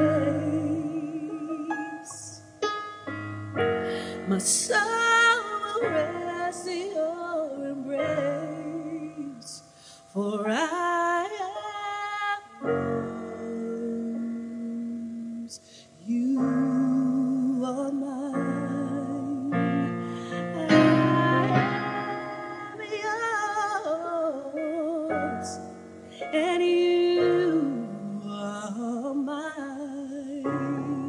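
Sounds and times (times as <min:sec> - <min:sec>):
woman singing: 0:00.0 - 0:02.6, 0:03.9 - 0:31.0
piano chords: 0:00.0 - 0:09.6, 0:10.2 - 0:15.5, 0:16.1 - 0:31.0.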